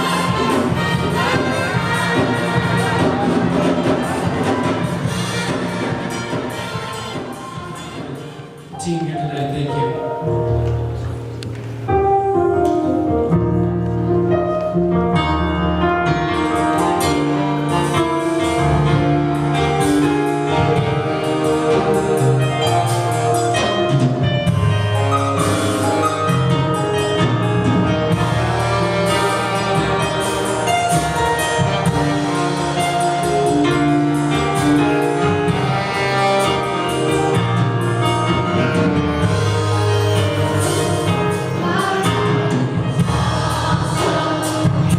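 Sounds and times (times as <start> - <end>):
drum kit: 0.0 - 9.7, 10.5 - 44.9
keyboard: 0.0 - 44.9.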